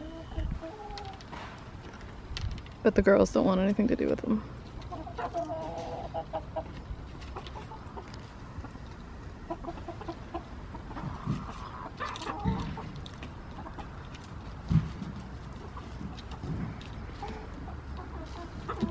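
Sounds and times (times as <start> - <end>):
chickens clucking: 0.0 - 2.1, 4.0 - 18.9.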